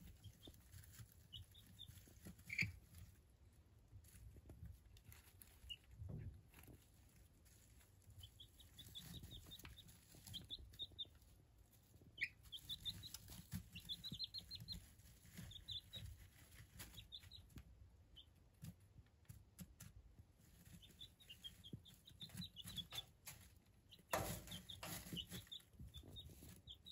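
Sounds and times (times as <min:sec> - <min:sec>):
chicks peeping: 0:00.0 - 0:26.9
scratching in wood shavings: 0:00.0 - 0:26.9.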